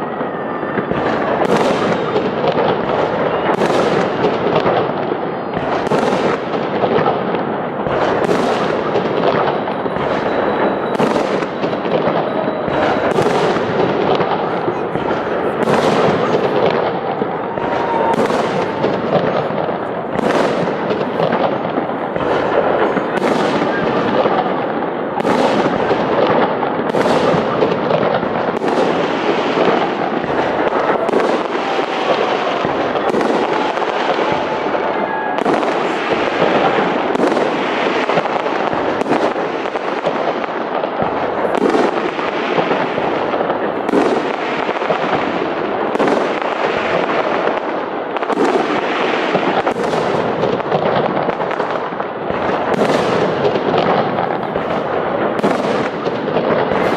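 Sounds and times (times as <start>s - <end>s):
fireworks bursts: 0.0s - 56.9s
fireworks crackle and rumble: 0.0s - 56.9s.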